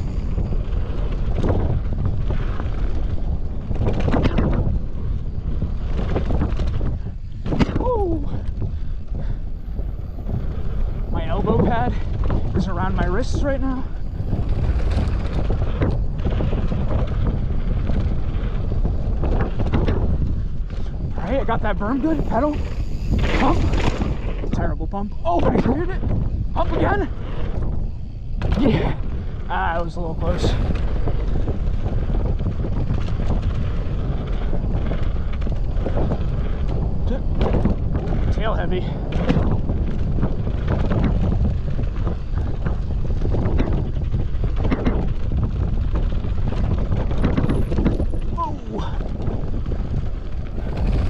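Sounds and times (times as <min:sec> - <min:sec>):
bike knocks and rattles: 0:00.0 - 0:51.0
mountain bike rumbling on dirt trail: 0:00.0 - 0:51.0
wind buffeting microphone: 0:00.0 - 0:51.0.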